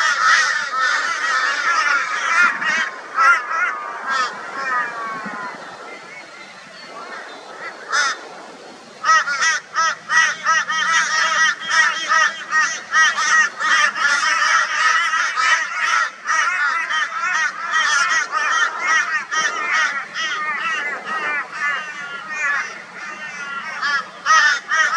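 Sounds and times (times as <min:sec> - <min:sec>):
crows calling harshly: 0:00.0 - 0:05.5, 0:07.1 - 0:08.3, 0:09.0 - 0:24.9.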